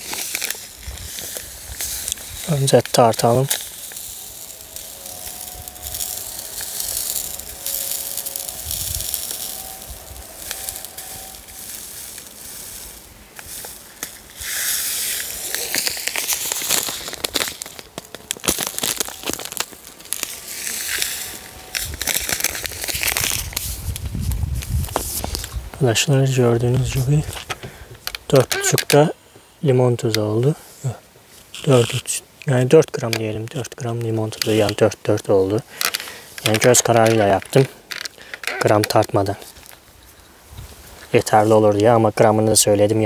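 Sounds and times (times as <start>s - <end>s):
plastic bag crinkling: 0.0s - 29.0s, 32.9s - 40.0s.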